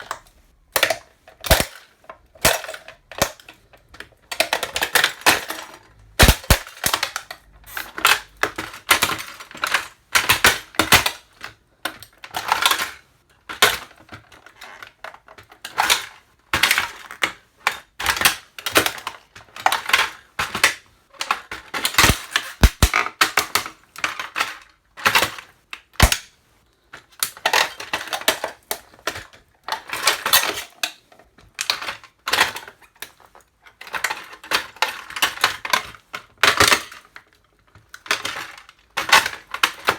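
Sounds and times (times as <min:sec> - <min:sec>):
plastic parts snapping: 0:00.0 - 0:17.4, 0:18.0 - 0:33.2, 0:33.8 - 0:39.9.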